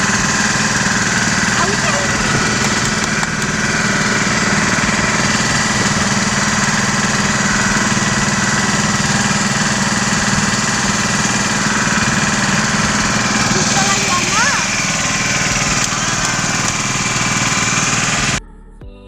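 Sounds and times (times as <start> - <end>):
motorboat engine running: 0.0 - 18.4.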